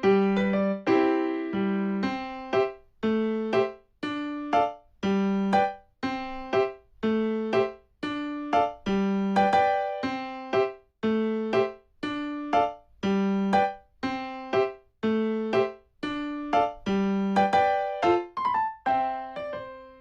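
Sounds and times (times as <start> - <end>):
light bouncy piano tune: 0.0 - 20.0.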